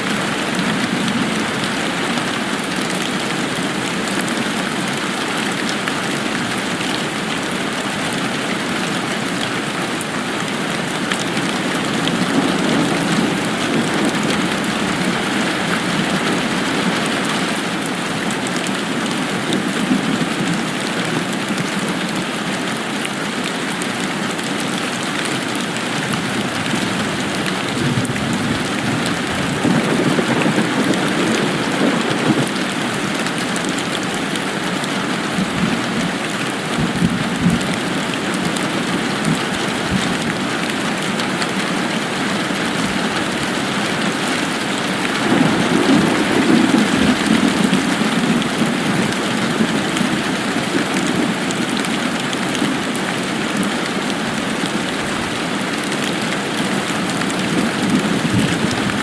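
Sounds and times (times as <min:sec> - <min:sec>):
dense rain falling: 0:00.0 - 0:59.0.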